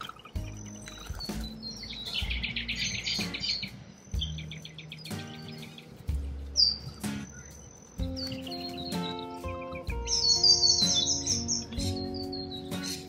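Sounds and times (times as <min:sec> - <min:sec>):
background music with low notes: 0:00.0 - 0:13.0
birds chirping: 0:00.0 - 0:13.0.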